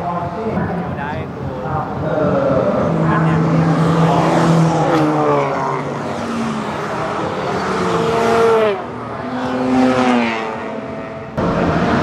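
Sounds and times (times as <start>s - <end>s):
rotary engine revving hard: 2.0s - 12.0s.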